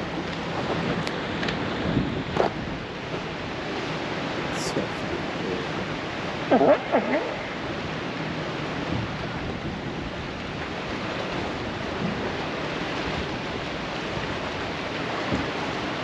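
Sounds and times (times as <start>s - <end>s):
waves rushing on shore: 0.0s - 16.0s.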